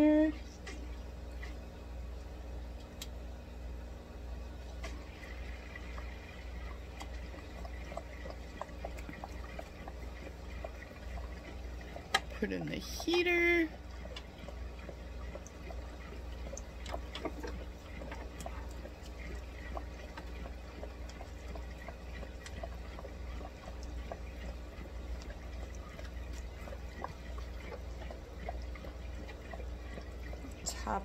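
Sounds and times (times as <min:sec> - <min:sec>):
steady low hum: 0:00.0 - 0:31.0
air bubbles popping in water: 0:04.7 - 0:31.0.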